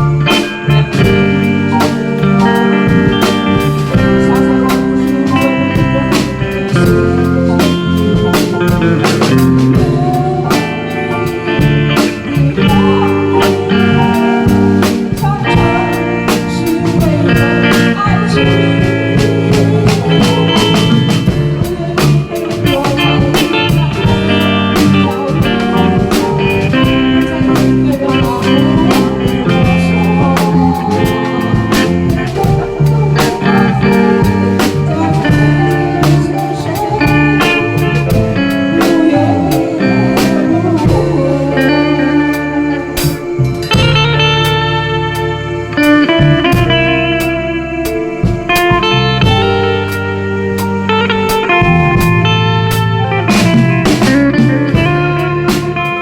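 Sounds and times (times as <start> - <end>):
lead guitar: 0.0 - 56.0
live band music: 0.0 - 56.0.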